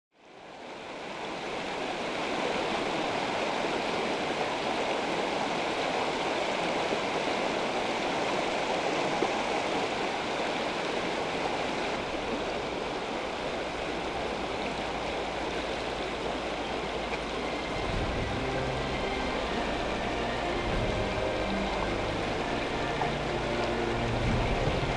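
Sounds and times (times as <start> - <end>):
river rushing over rocks: 0.3 - 24.9.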